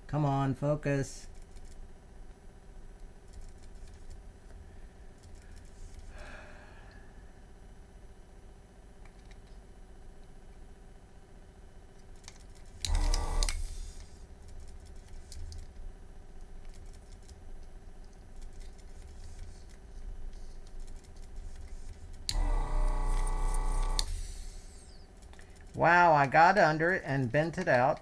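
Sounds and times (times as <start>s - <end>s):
desoldering vacuum pump humming: 0.0s - 28.0s.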